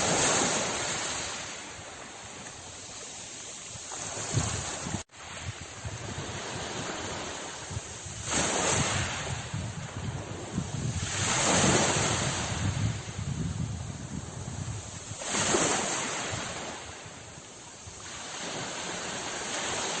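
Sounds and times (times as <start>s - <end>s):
sea waves breaking on shore: 0.0s - 20.0s.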